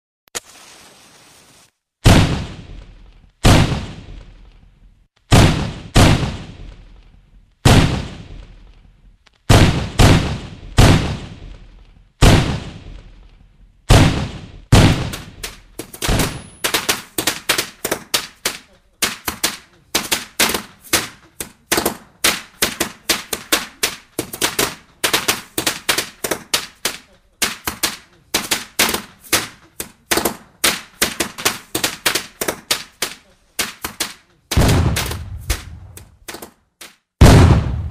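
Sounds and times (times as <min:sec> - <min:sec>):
fireworks exploding: 0:05.3 - 0:08.9, 0:09.5 - 0:36.5, 0:37.2 - 0:37.9.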